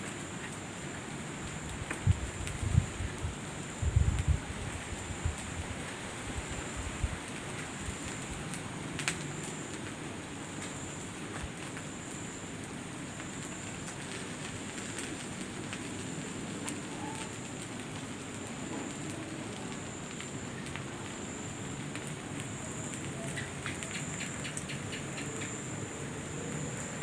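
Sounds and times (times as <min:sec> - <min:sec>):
crackling hiss: 0:00.0 - 0:27.0.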